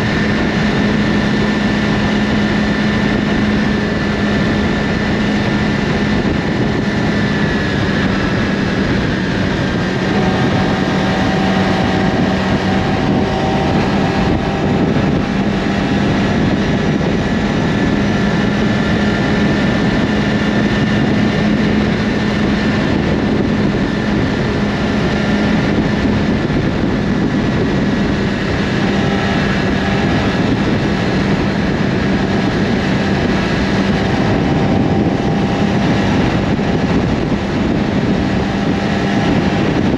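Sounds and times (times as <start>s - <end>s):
motorcycle engine cruising: 0.0s - 39.9s
rushing wind noise: 0.0s - 39.9s.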